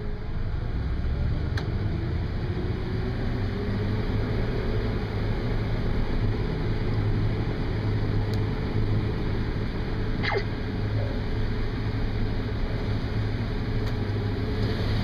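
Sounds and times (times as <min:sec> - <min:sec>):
combine engine and machinery drone: 0:00.0 - 0:15.0.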